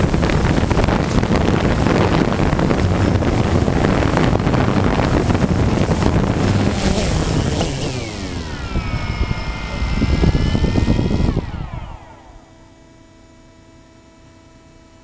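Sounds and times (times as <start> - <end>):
drone motors whining and spinning down: 0.0 - 14.7
faint electronic hum: 0.0 - 15.0.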